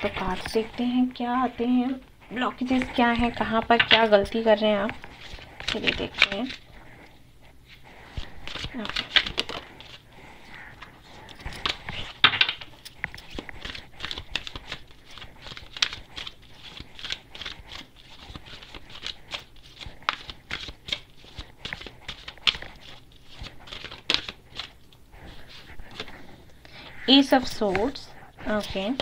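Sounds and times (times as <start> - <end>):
cards being shuffled by hand: 0.0 - 1.0, 1.9 - 7.1, 7.7 - 29.0.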